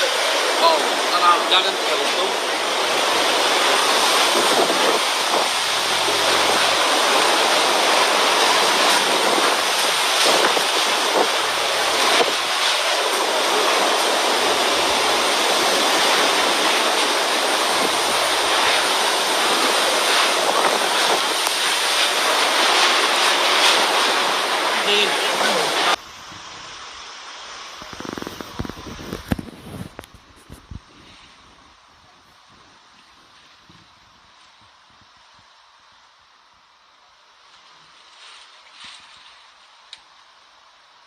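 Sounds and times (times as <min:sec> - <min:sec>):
waves rushing: 0:00.0 - 0:33.7
strong wind: 0:00.0 - 0:36.0.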